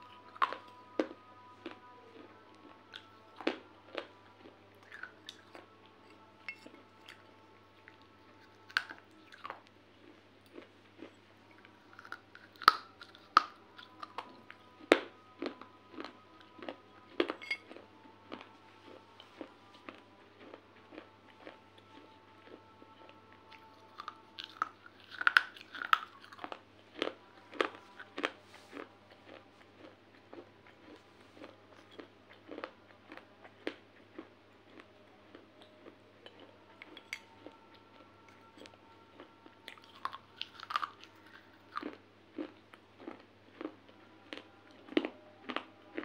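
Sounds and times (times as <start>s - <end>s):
chewing brittle clay shards: 4.8s - 43.7s.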